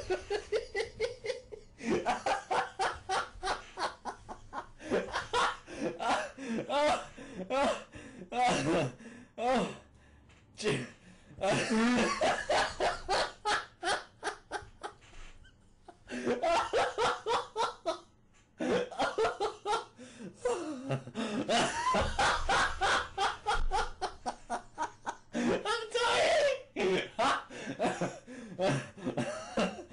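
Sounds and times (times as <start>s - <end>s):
person laughing hard: 0.0s - 7.1s, 11.4s - 15.0s, 15.9s - 18.0s, 18.6s - 29.9s.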